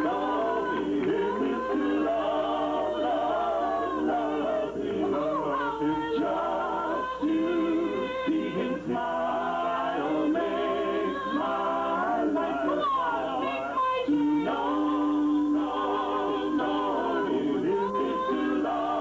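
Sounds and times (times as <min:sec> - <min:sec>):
group of voices singing in harmony: 0:00.0 - 0:19.0.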